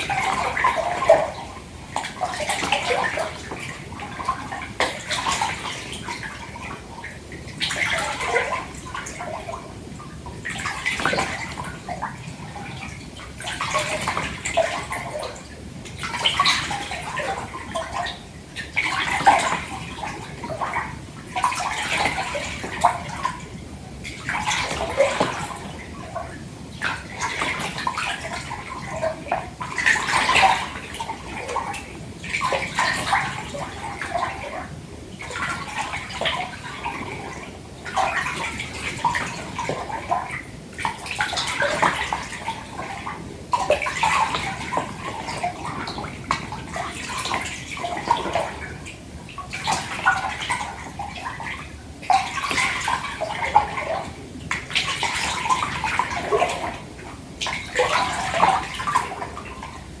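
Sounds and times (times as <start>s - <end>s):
small splashes and drips: 0.0s - 60.0s
water sloshing in bathtub: 0.0s - 60.0s.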